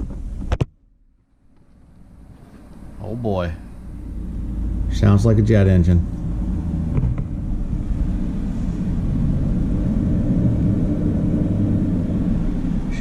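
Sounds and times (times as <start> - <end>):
computer cooling fans whooshing: 0.0 - 13.0.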